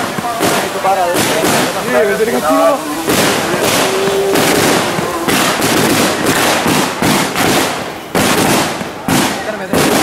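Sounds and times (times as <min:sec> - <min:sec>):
firecrackers crackling: 0:00.0 - 0:10.0.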